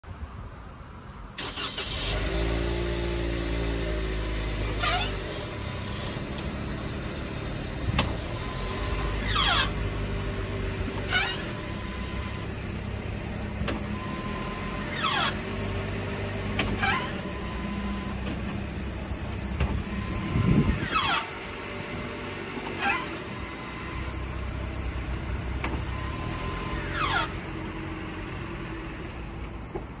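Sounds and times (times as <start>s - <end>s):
brake squealing high-pitched: 1.4s - 29.4s.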